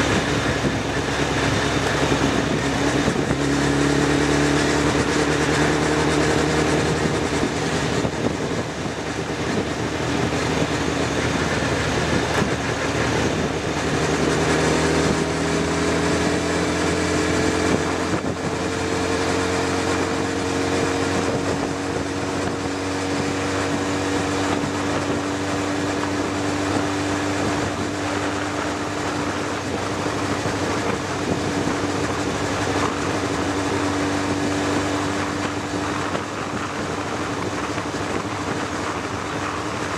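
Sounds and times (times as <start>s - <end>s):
vehicle engine cruising: 0.0s - 39.9s
wind and road rush: 0.0s - 39.9s.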